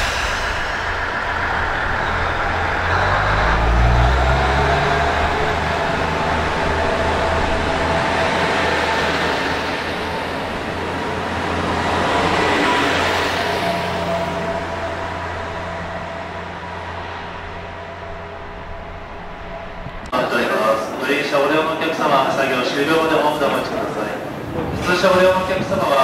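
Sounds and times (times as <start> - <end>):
diesel railcar engine running: 0.0 - 26.0
wheel and rail noise: 0.0 - 26.0.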